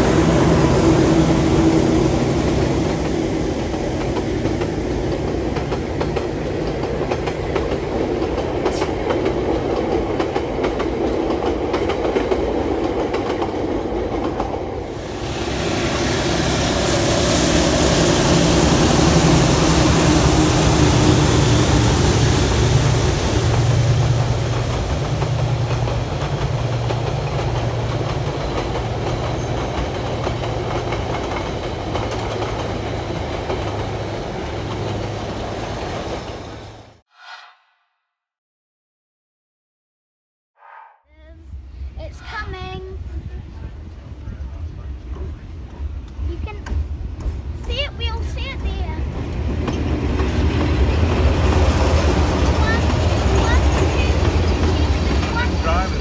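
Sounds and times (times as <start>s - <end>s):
diesel locomotive engine beating: 0.0s - 37.0s, 41.2s - 56.0s.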